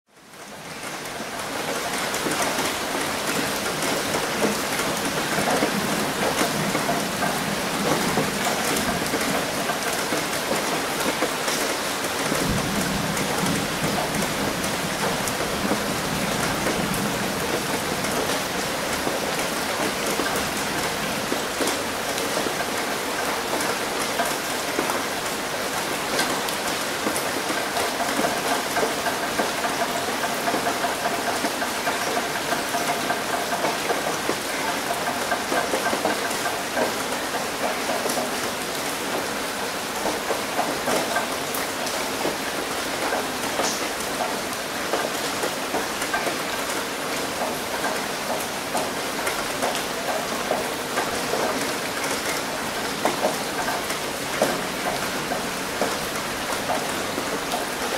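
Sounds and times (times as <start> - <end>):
rain on a roof: 0.1 - 57.9.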